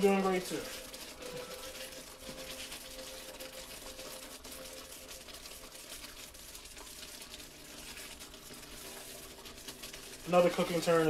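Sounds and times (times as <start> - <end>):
sauce simmering and bubbling: 0.0 - 11.0.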